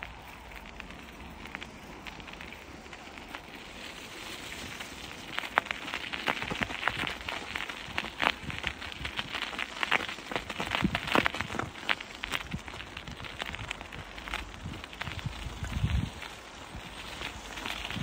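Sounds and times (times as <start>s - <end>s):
bicycle tyres crunching snow: 0.0s - 18.0s.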